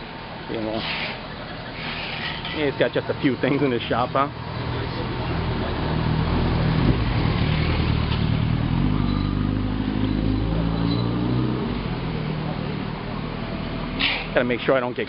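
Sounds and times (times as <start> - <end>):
motor vehicle engine running: 1.1 - 15.0.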